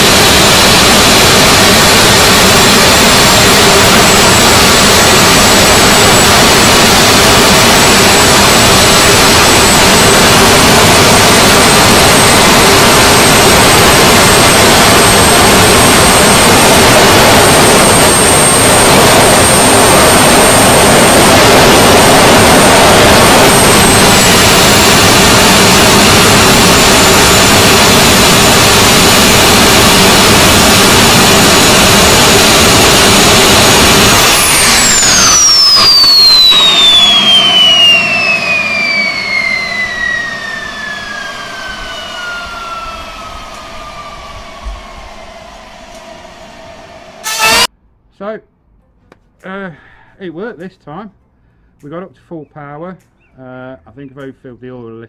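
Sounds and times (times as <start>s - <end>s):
high turbine whine: 0.0s - 47.7s
jet engine rushing noise: 0.0s - 47.7s.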